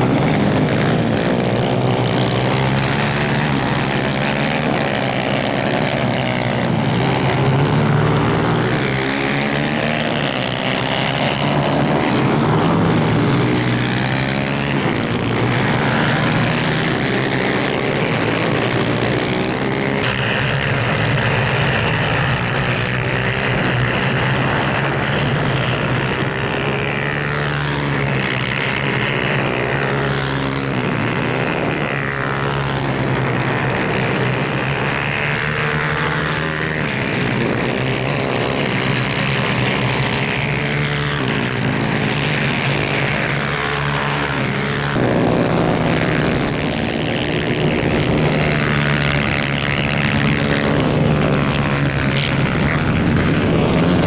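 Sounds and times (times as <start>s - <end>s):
two-stroke kart engines racing: 0.0s - 54.0s.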